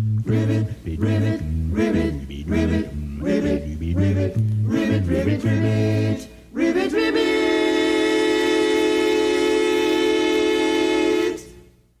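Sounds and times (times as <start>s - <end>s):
cartoon voices singing in harmony: 0.0s - 11.7s.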